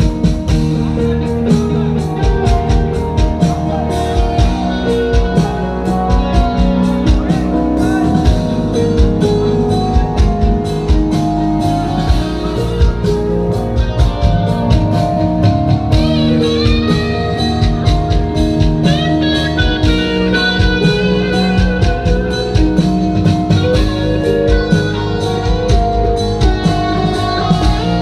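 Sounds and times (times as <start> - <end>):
bass guitar: 0.0 - 28.0
drums and percussion beat: 0.0 - 28.0
electric lead guitar melody: 0.0 - 28.0
keyboard: 0.0 - 28.0.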